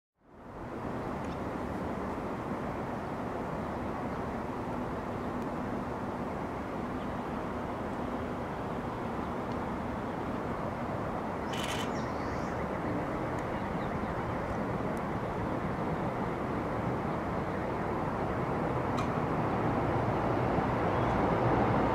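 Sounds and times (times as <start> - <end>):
distant city hum: 0.2 - 21.9
train passing: 0.3 - 21.9.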